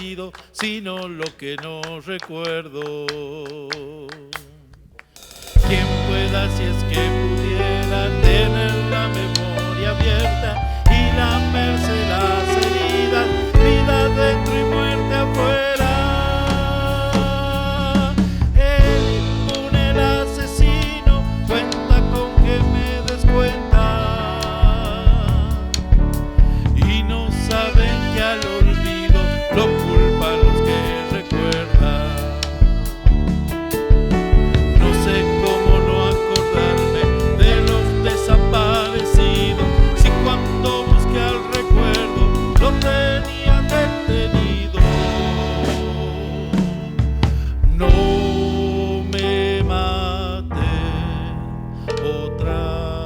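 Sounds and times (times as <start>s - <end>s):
low drum beats: 5.3s - 51.5s
folk ensemble playing: 5.5s - 51.3s.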